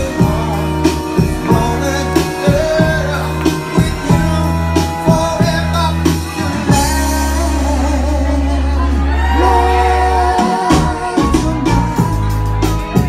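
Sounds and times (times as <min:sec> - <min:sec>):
vocal group singing: 0:00.0 - 0:12.0
backing music beat: 0:00.0 - 0:13.0.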